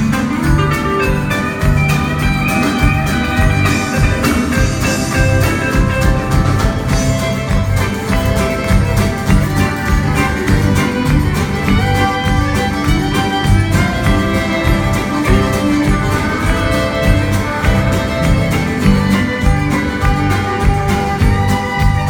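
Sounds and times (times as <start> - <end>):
fiddle: 0.0 - 22.0
guitar: 0.0 - 22.0
steady beat: 0.0 - 22.0.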